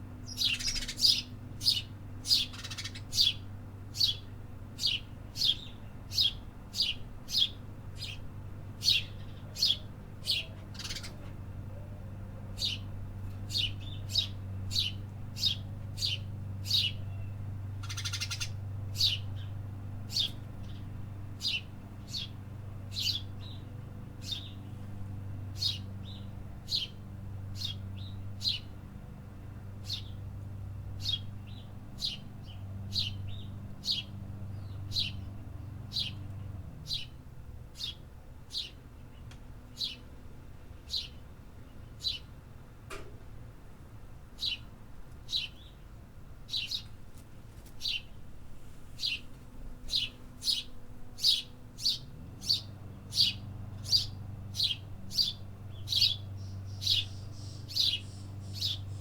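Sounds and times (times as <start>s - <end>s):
songbird chirping: 0.2s - 28.9s, 29.8s - 42.4s, 44.4s - 47.0s, 47.7s - 48.3s, 48.9s - 59.0s.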